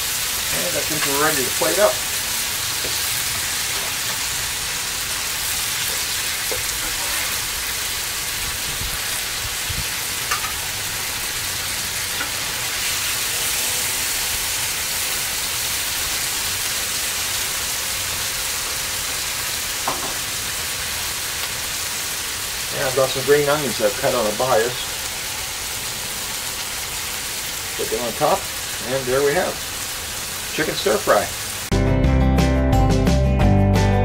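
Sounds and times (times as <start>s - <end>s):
food sizzling on a griddle: 0.0s - 31.7s.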